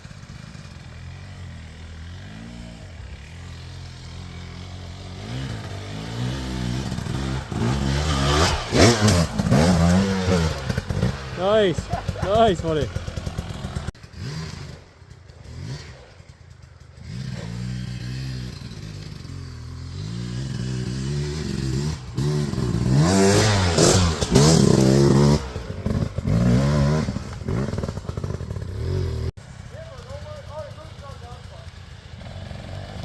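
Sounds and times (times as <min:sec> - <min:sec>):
dirt bike engine revving: 0:00.3 - 0:29.3, 0:30.1 - 0:33.0.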